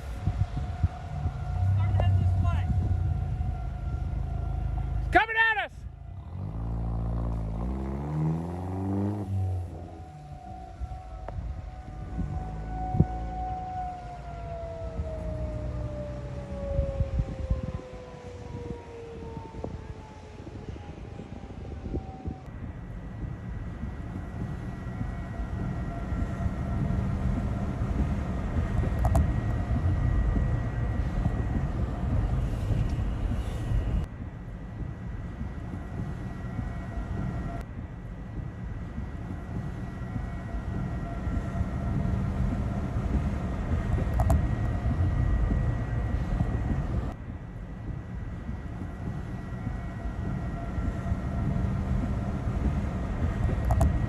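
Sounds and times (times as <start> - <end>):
faint steady whines: 0.0 - 54.0
heavy low rumble: 0.0 - 54.0.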